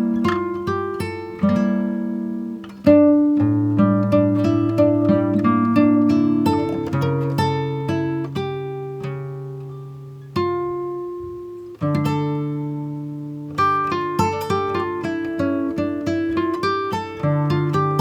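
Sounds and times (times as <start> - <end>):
plucked acoustic guitar: 0.0 - 18.0.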